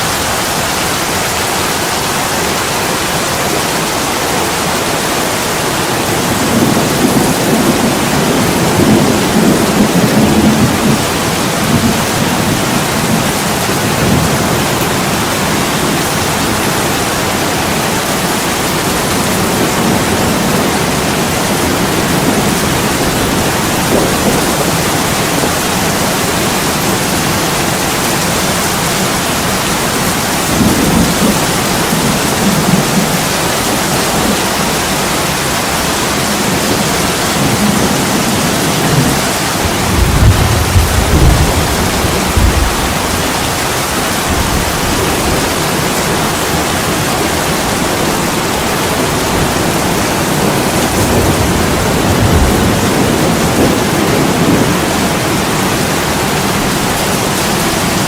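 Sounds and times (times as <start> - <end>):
heavy rain against a window: 0.0 - 58.0.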